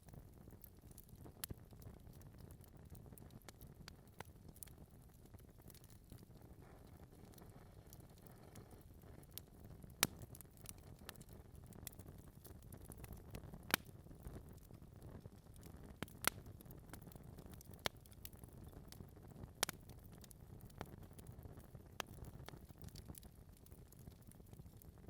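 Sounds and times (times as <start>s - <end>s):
logs crackling and popping: 0.0s - 25.0s
fire rumbling: 0.1s - 25.0s.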